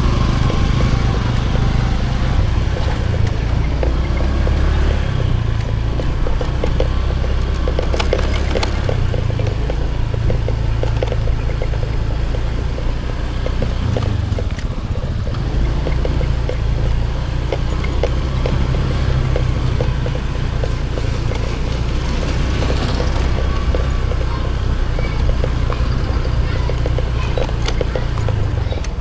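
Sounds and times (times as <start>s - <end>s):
clicks and rattles: 0.0s - 29.0s
vehicle rumbling: 0.0s - 29.0s.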